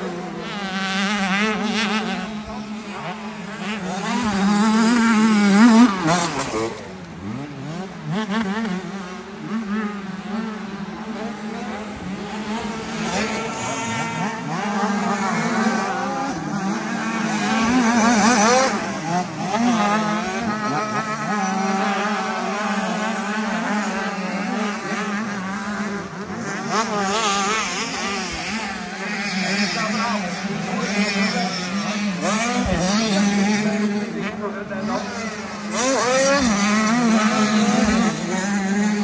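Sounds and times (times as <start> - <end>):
motocross bikes revving: 0.0 - 39.0.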